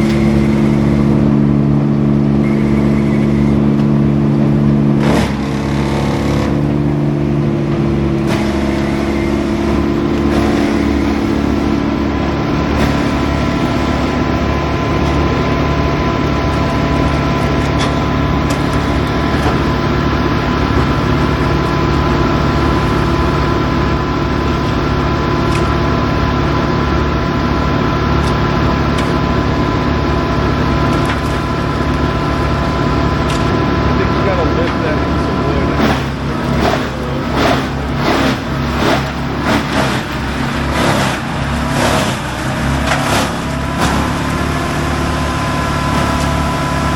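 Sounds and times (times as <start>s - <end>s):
heavy machinery engine running: 0.0s - 46.9s
steady whine: 0.0s - 46.9s.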